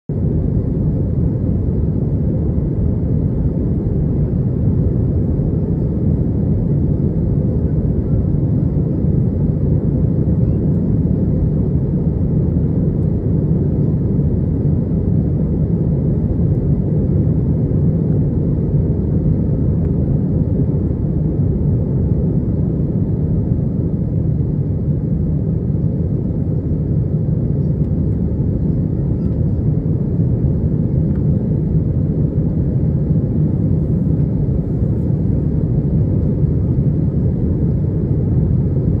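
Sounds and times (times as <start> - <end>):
airliner engines rumbling in cabin: 0.1 - 39.0.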